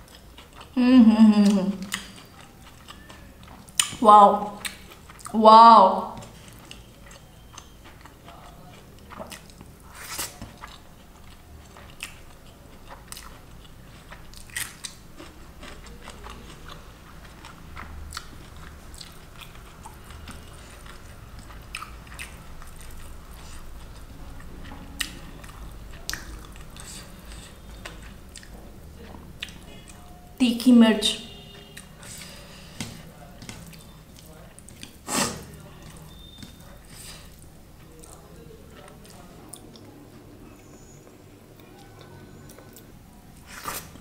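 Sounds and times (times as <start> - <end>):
person chewing food: 0.0 - 5.4, 6.1 - 30.4, 31.3 - 44.0.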